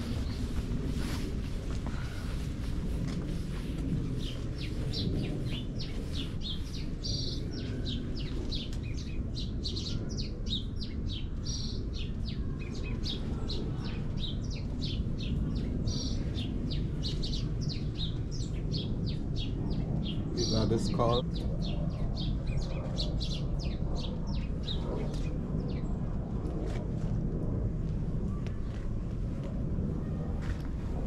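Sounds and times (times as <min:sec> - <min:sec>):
flock of birds chirping: 0:00.0 - 0:26.7.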